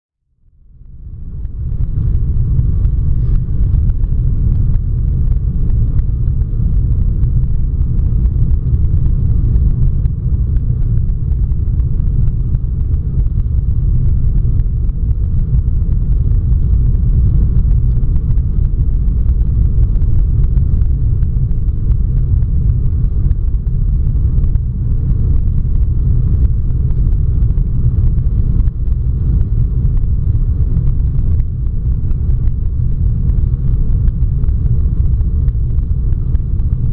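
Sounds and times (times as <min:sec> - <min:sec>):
airliner cabin engine rumble: 0:00.7 - 0:36.9.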